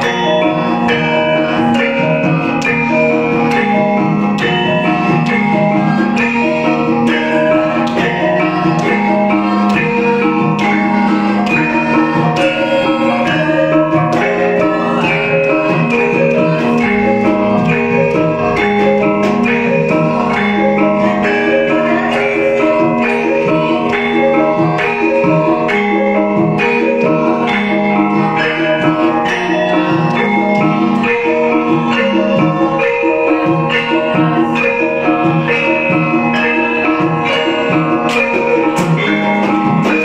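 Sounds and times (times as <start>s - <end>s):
metallophones struck with mallets: 0.0s - 40.0s
ringing gong tones: 0.0s - 40.0s.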